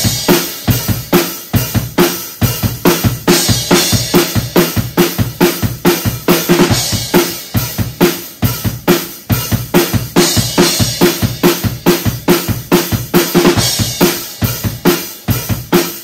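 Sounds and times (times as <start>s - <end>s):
drum kit groove: 0.0s - 16.0s.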